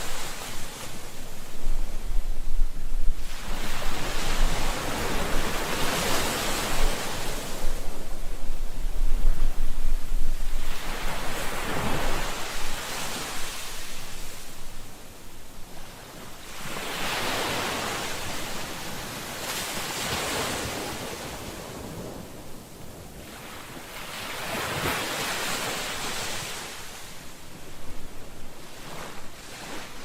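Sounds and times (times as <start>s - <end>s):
sea waves washing ashore: 0.0s - 30.0s.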